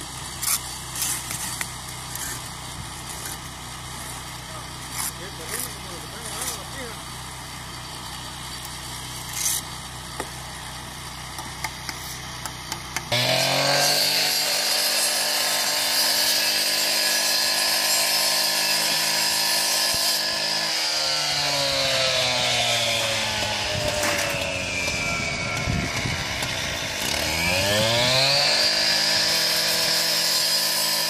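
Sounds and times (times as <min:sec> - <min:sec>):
masonry saw cutting concrete block: 0:00.0 - 0:31.0.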